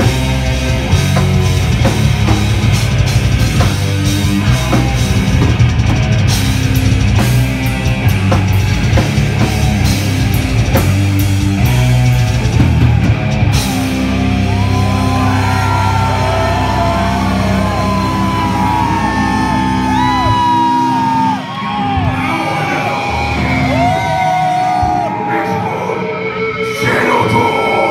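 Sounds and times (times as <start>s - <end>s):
distorted guitars and bass: 0.0s - 27.9s.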